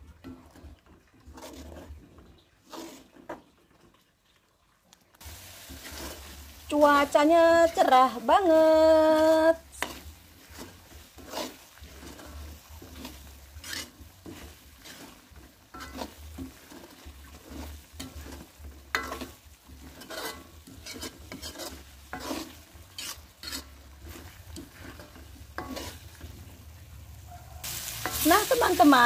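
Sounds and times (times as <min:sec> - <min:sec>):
metal spatula scraping wok: 0:00.1 - 0:03.5, 0:05.2 - 0:29.0
paste sizzling: 0:02.6 - 0:03.4, 0:05.2 - 0:29.0.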